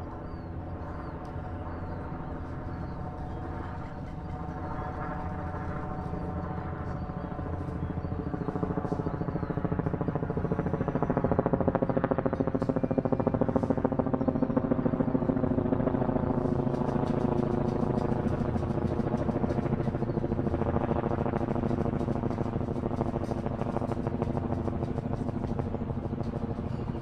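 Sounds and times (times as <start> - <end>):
helicopter rotor beating: 0.0 - 27.0.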